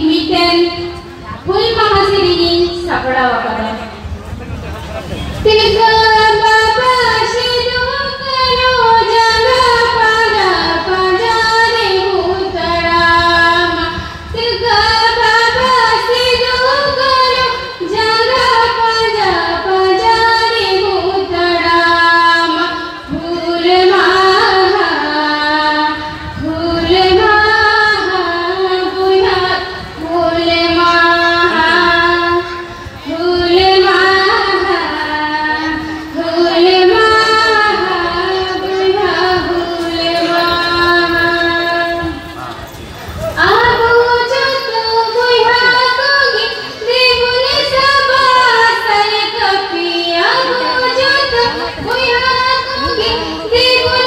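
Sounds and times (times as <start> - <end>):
woman singing over loudspeakers: 0.0 - 4.1, 5.3 - 42.5, 43.2 - 54.0.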